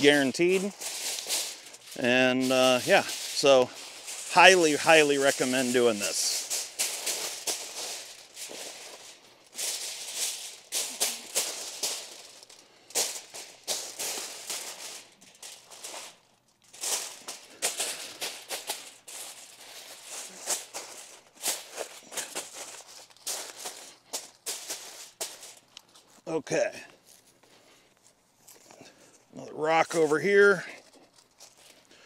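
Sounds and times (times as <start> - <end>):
aluminium foil crinkling: 0.0 - 32.0.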